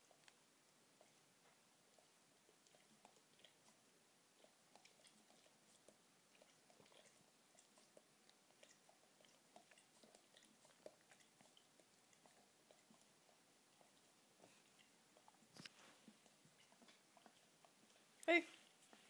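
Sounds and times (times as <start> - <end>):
dog lip-smacking and chewing: 1.0 - 19.0.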